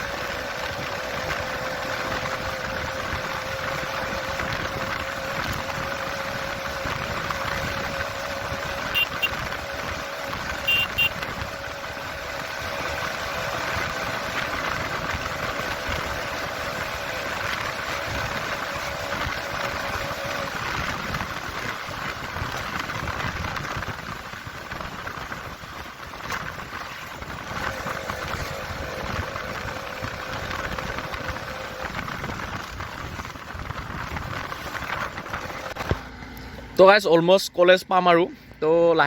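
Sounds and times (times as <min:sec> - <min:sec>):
motorcycle engine running: 0:00.0 - 0:38.6.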